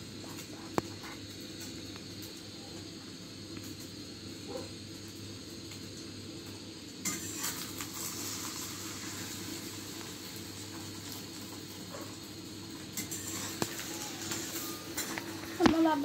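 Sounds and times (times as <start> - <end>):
omelette sizzling in pan: 0.0 - 16.0.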